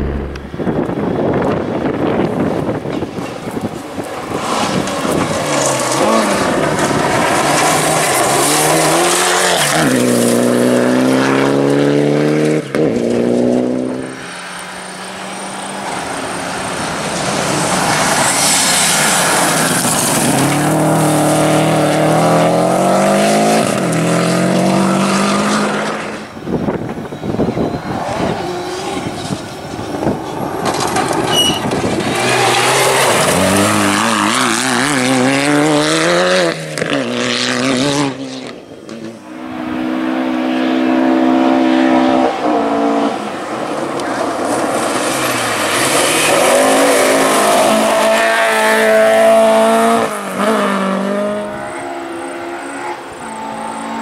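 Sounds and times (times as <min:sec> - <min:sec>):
rally car engines revving hard: 0:00.0 - 0:54.0.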